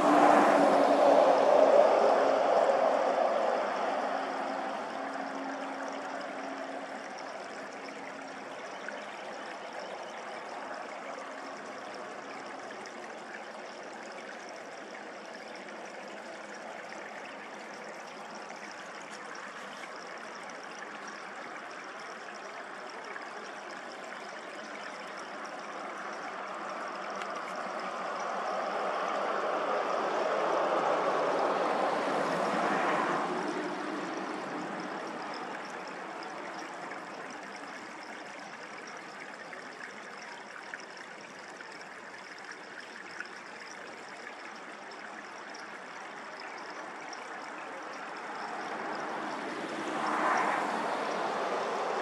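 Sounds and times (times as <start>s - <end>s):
steady water-like rush: 0.0s - 52.0s.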